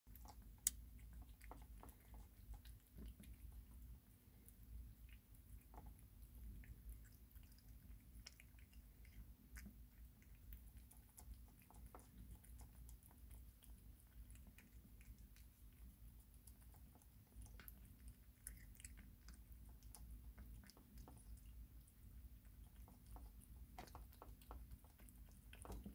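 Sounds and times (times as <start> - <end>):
kitten chewing food: 0.1 - 25.9.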